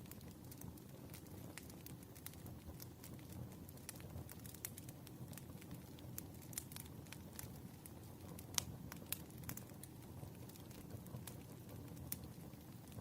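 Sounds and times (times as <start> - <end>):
fire crackling and popping: 0.0 - 13.0
wood fire rumbling: 0.0 - 13.0.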